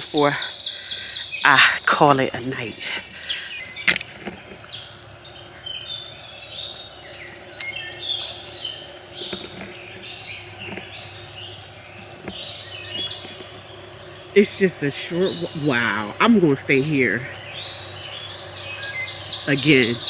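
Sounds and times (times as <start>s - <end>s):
birds chirping and singing: 0.0s - 20.0s
steady low hum: 0.0s - 20.0s.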